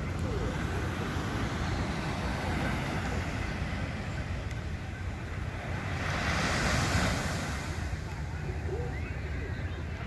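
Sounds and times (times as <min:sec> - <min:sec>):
sea surf rumble: 0:00.0 - 0:10.0.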